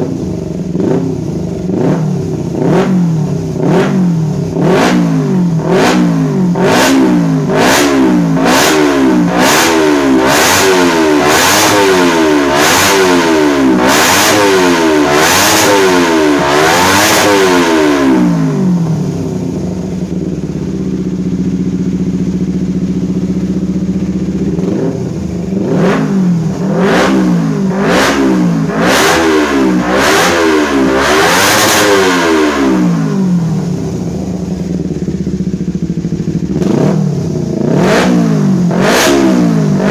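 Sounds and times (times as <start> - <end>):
engine revving and idling: 0.0 - 39.9.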